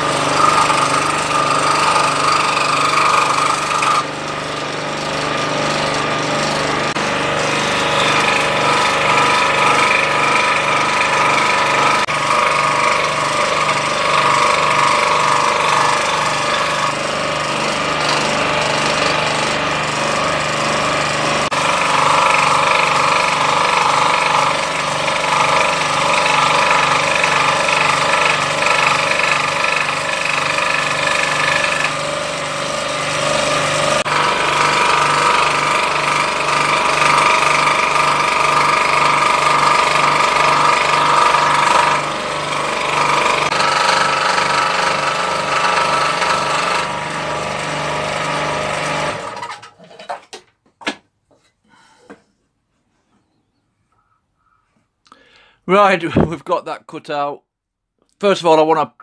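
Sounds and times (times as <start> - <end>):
motor hum: 0.0 - 47.7
scroll saw cutting: 0.0 - 49.8.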